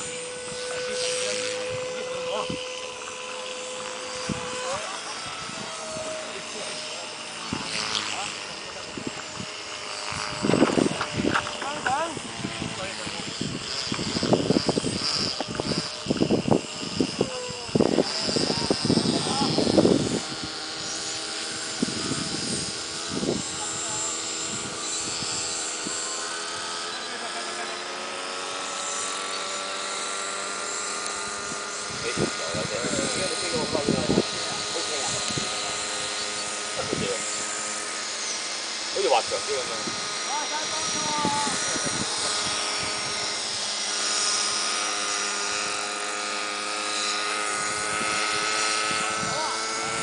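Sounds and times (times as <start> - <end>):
model plane propeller whine: 0.0 - 50.0.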